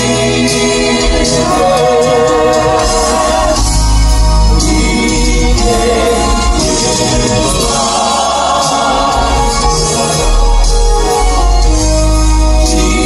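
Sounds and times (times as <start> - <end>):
male vocal quartet singing: 0.0 - 13.0
piano accompaniment: 0.0 - 13.0.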